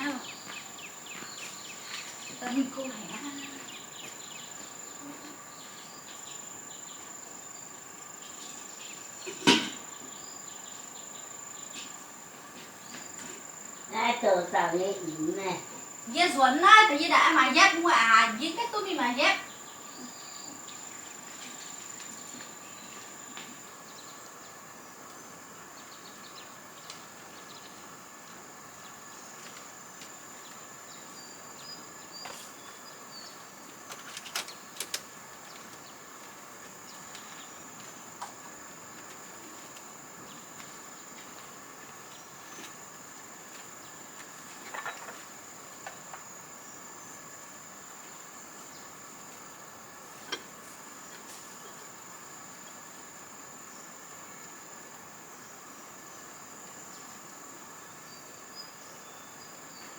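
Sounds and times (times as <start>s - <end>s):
insects trilling: 0.0s - 59.9s.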